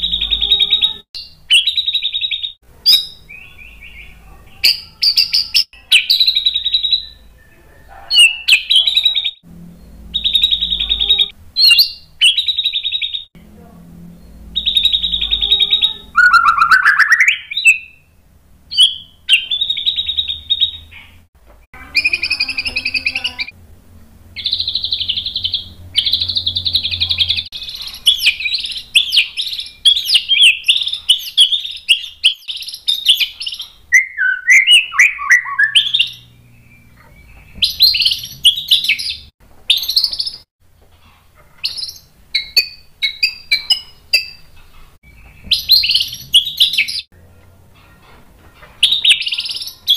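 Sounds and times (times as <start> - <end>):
songbird singing varied phrases: 0.0 - 21.2, 21.8 - 23.6, 24.4 - 40.5, 41.6 - 47.1, 48.8 - 49.9.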